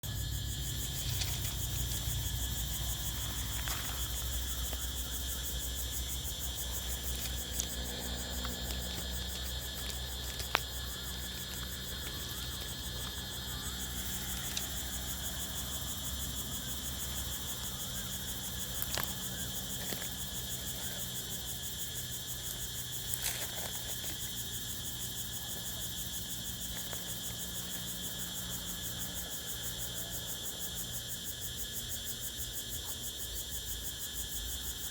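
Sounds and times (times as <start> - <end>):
crickets and insects trilling: 0.0 - 34.9.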